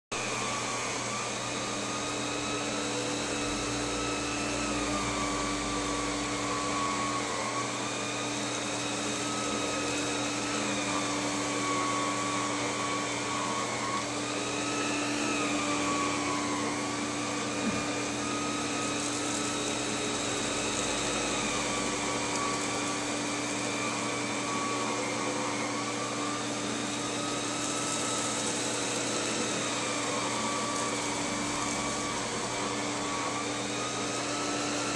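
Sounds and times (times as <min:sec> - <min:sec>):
vacuum cleaner motor whine: 0:00.1 - 0:34.9.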